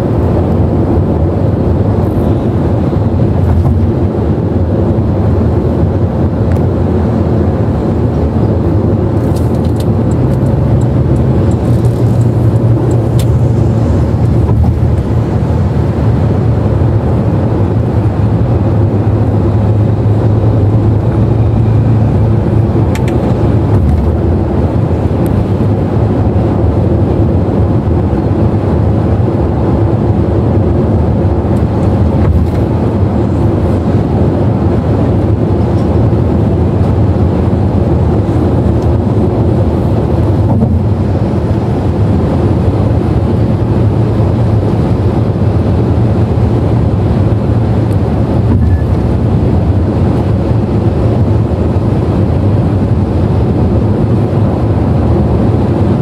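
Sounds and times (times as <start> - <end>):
engine drone: 0.0 - 56.0
tyre and road noise: 0.0 - 56.0.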